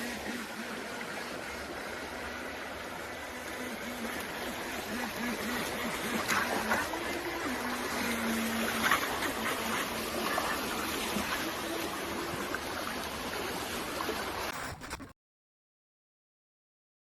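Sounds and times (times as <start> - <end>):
rushing water-like noise: 0.0 - 14.5
faint hum: 0.0 - 15.0.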